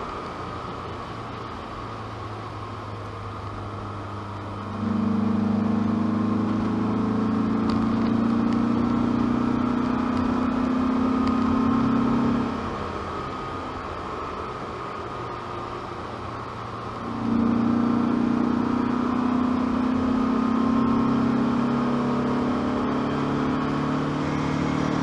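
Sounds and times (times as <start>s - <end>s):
car engine accelerating from inside: 0.0s - 25.0s.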